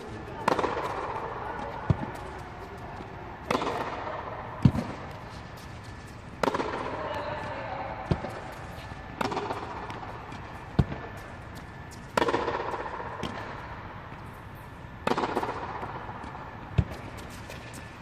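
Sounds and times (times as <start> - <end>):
racket hitting tennis ball: 0.0 - 14.3, 15.0 - 17.8.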